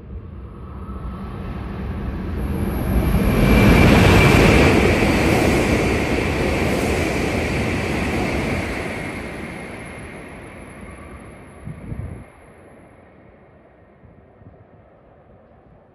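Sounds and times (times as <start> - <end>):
high-speed train passing: 0.0 - 15.9.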